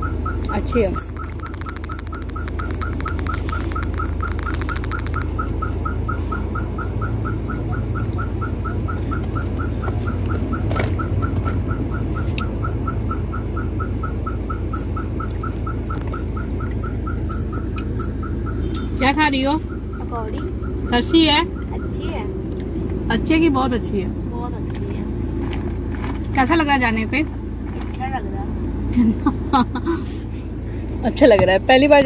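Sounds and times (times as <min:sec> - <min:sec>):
car engine low hum: 0:00.0 - 0:32.0.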